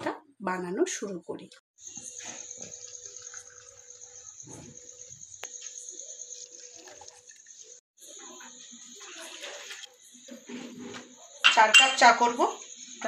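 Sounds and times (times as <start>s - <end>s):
cricket trill: 1.8s - 13.0s.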